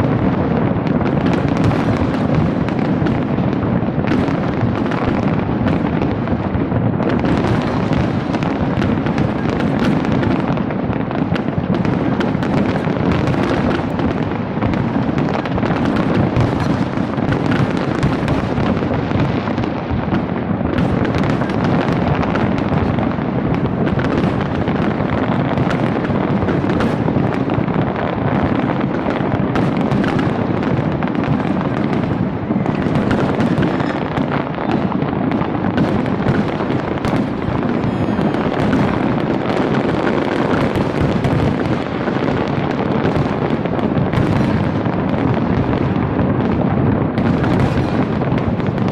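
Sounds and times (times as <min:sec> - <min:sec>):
fireworks booming and cracking: 0:00.0 - 0:48.9.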